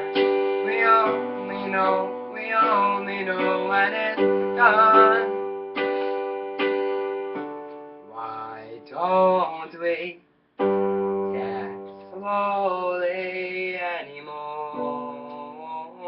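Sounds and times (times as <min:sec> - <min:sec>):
person singing: 0:00.0 - 0:06.9, 0:08.1 - 0:10.2, 0:11.2 - 0:16.0.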